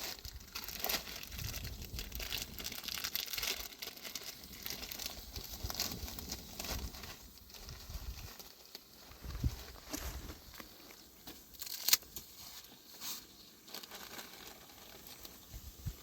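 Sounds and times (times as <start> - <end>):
crinkling and rustling: 0.0 - 16.0.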